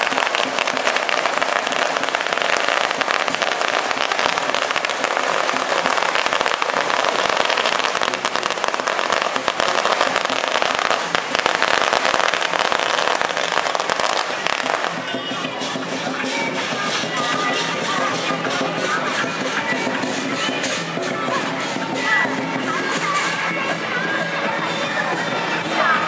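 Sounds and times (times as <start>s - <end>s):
firecrackers crackling: 0.0s - 26.0s.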